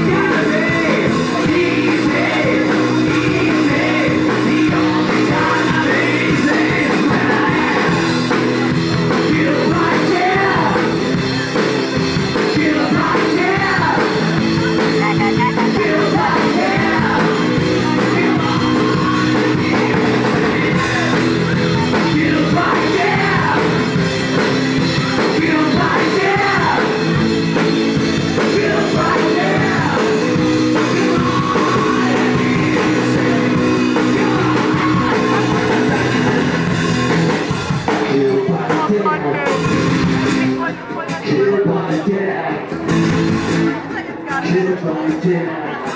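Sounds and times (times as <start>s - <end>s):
lead singer's voice: 0.0s - 45.9s
live rock band: 0.0s - 45.9s.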